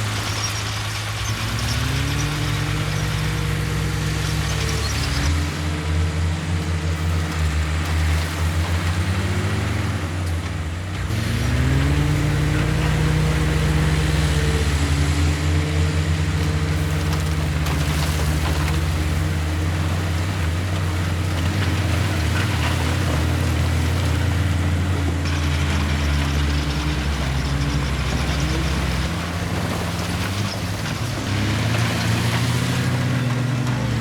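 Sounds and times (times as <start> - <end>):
heavy diesel engine revving: 0.0 - 34.0.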